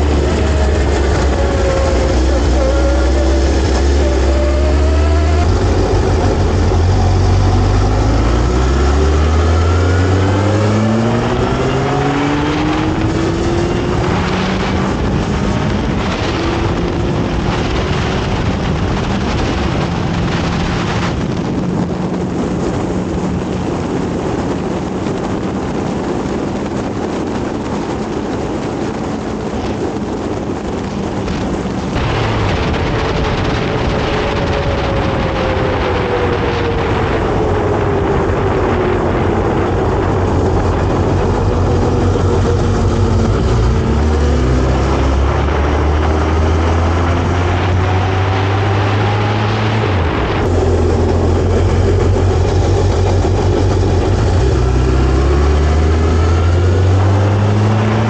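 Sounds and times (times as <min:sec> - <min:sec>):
motorcycle engine accelerating: 0:00.0 - 0:58.0
wind rush: 0:00.0 - 0:58.0.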